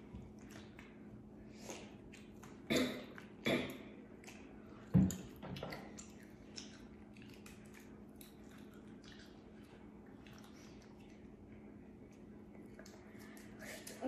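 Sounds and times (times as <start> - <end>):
squishing and chewing: 0.0 - 14.0.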